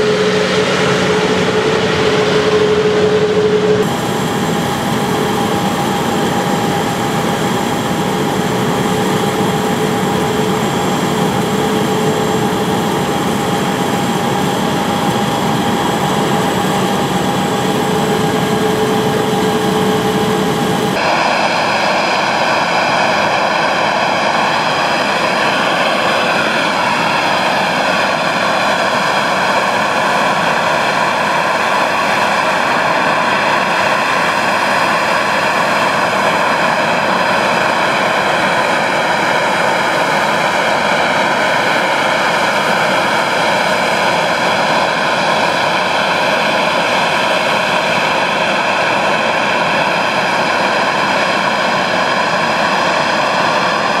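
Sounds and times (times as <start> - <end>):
high-pitched jet whine: 0.0 - 54.0
jet engines whining: 0.0 - 54.0.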